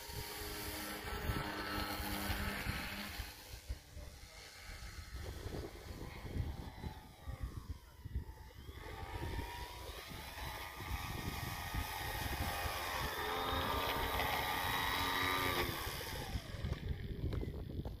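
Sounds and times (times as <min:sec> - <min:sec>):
model aircraft motor whine: 0:00.0 - 0:18.0
wind buffeting microphone: 0:00.0 - 0:18.0.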